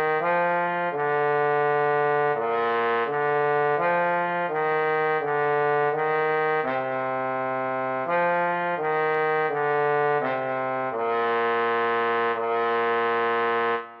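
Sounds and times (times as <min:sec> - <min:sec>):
synthesized trombone notes: 0:00.0 - 0:14.0.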